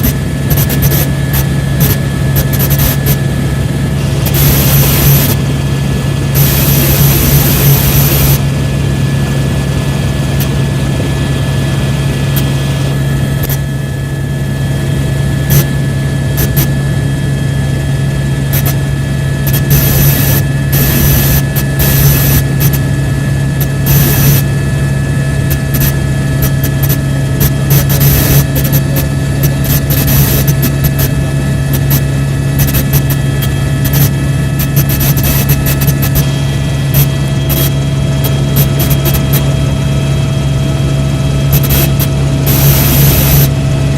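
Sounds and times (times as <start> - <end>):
helicopter engine and rotors: 0.0 - 43.9.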